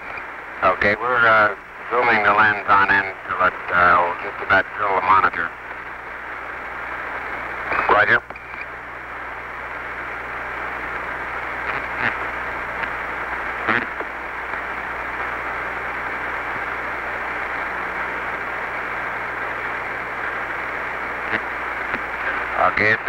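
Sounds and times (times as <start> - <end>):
faint low hum: 0.0 - 23.0
radio clicks and blips: 0.0 - 23.0
radio static hiss: 0.0 - 23.0.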